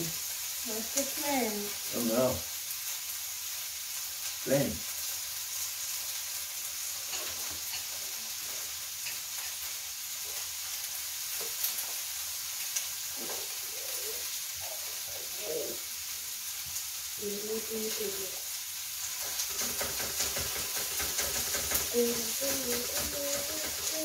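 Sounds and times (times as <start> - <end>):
food sizzling on grill plate: 0.0 - 24.0.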